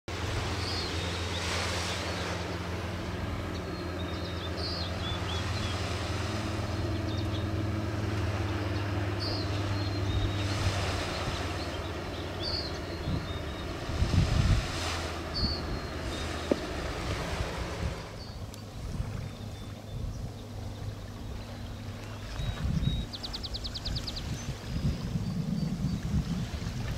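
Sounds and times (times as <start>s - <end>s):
distant motorboat engine droning: 0.1s - 26.9s
wind gusts on microphone: 0.1s - 26.9s
small birds chirping: 0.5s - 14.4s, 15.2s - 17.0s, 18.0s - 26.5s.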